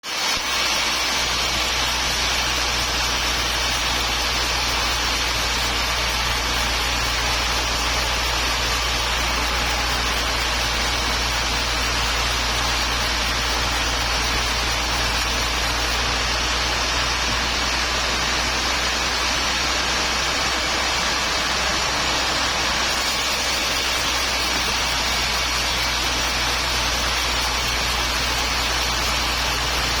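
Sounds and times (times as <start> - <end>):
continuous hiss: 0.0 - 30.0.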